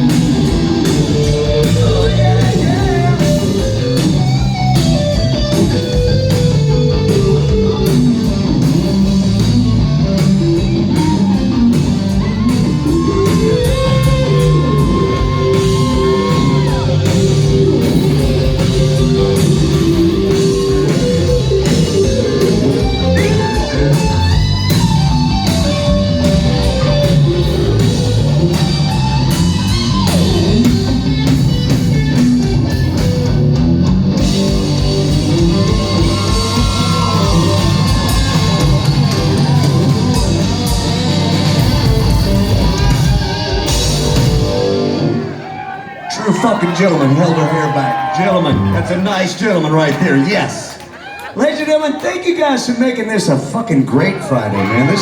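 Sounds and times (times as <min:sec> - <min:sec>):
electric guitar lead: 0:00.0 - 0:45.6
live rock band playing: 0:00.0 - 0:51.7.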